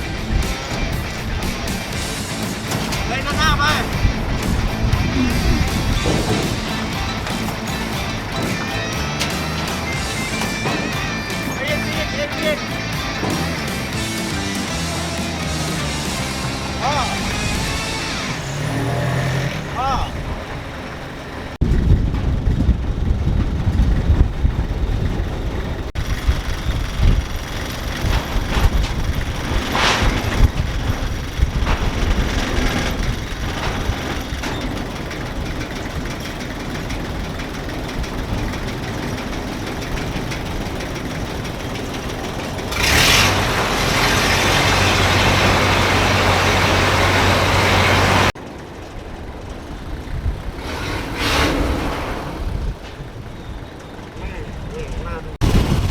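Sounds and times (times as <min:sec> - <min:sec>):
engine rumbling: 0:00.0 - 0:55.9
loud engine hum: 0:00.0 - 0:55.9.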